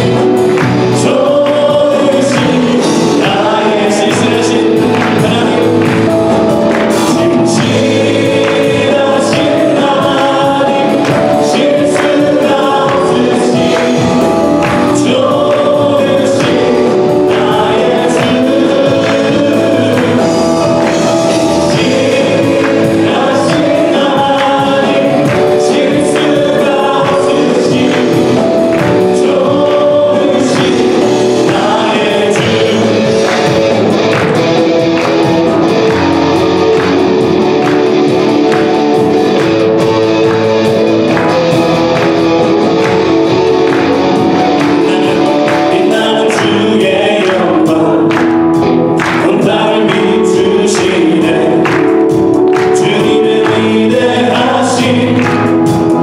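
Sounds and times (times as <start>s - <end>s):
acoustic guitar: 0.0s - 56.0s
drums beat: 0.0s - 56.0s
people singing together: 0.0s - 56.0s.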